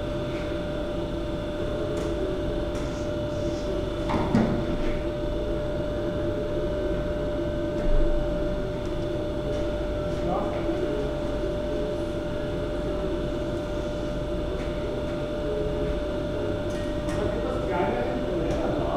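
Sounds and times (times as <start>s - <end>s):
steady machine hum: 0.0s - 18.9s.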